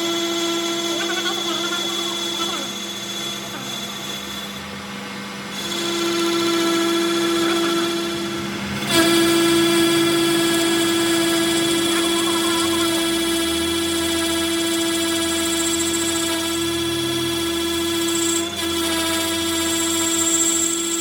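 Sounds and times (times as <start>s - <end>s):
electric motor humming: 0.0s - 21.0s.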